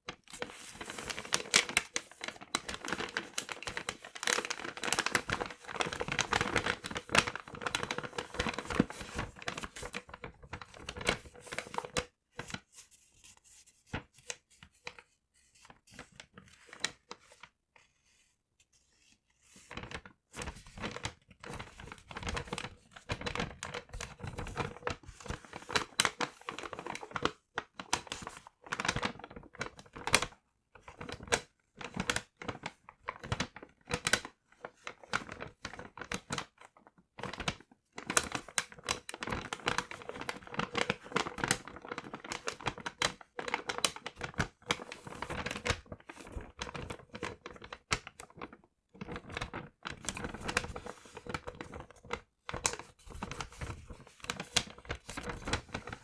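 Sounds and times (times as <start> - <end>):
paper crinkling and rustling: 0.0 - 56.0.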